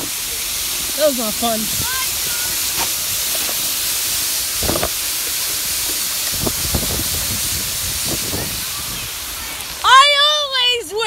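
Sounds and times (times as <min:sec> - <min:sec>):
steady microphone hiss: 0:00.0 - 0:11.0.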